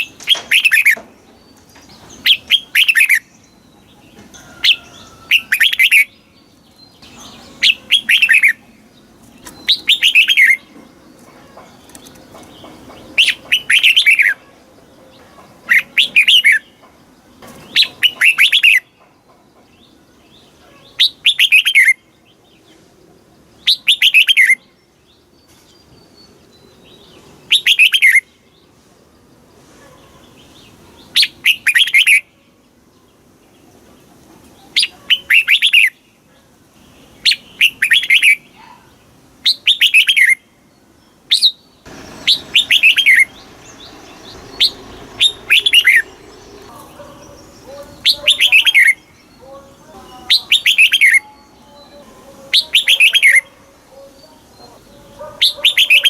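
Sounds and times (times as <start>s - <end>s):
bird singing: 0.0s - 28.8s, 29.8s - 56.0s.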